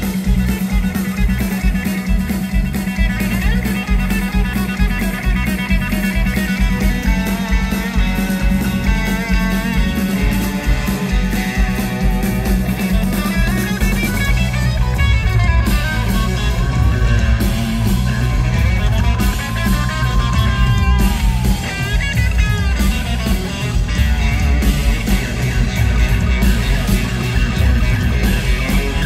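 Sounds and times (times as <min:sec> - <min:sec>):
bass guitar: 0:00.0 - 0:29.0
drums: 0:00.0 - 0:29.0
electric guitar lead: 0:00.0 - 0:29.0.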